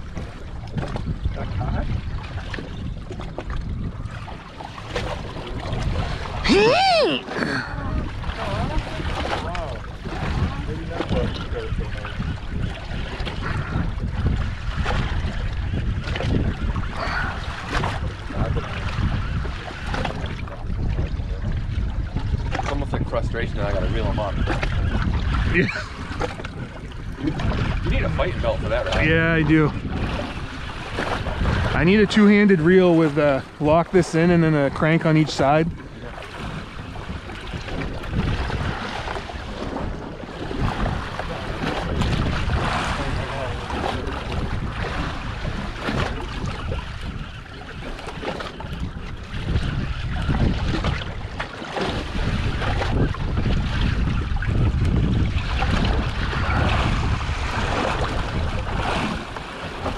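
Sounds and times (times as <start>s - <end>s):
small waves splashing against boat: 0.0s - 59.9s
wind buffeting microphone: 0.0s - 59.9s.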